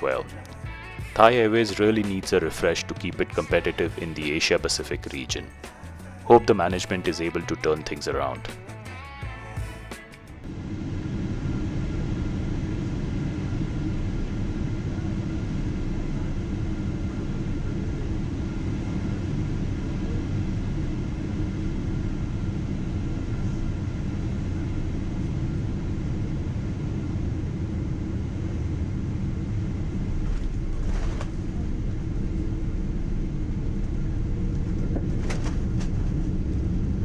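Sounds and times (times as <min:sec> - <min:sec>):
airplane cabin noise: 0:00.0 - 0:37.0.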